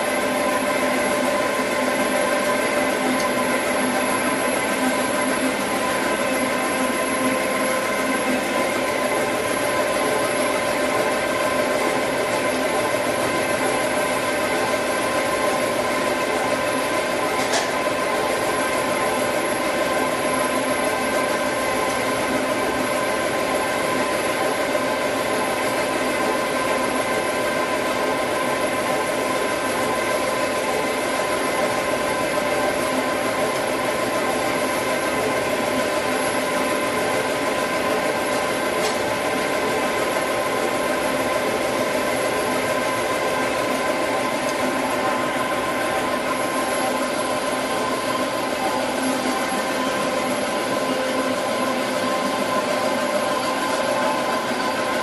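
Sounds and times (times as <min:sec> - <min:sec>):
printing machine whirring: 0:00.0 - 0:55.0.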